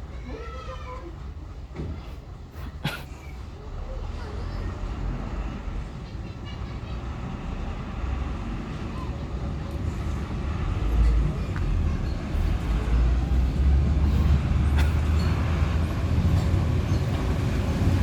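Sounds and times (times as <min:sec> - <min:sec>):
road noise: 0:02.4 - 0:18.0
heavy vehicle engine rumbling: 0:03.2 - 0:18.0.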